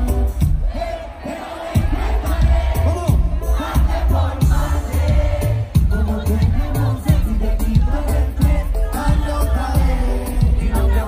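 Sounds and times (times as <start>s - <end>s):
loud reggaeton music: 0.0s - 11.0s
crowd shouting: 0.4s - 11.0s.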